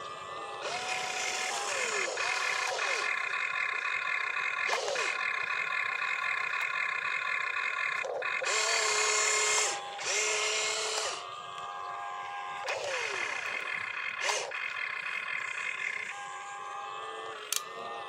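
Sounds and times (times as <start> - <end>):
electric motors and gears whining: 0.0 - 18.0.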